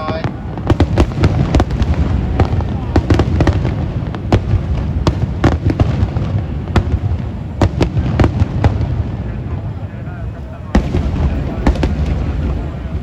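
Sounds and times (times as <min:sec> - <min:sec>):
fireworks cracks and bangs: 0:00.0 - 0:13.0
low rumble of distant bursts: 0:00.0 - 0:13.0.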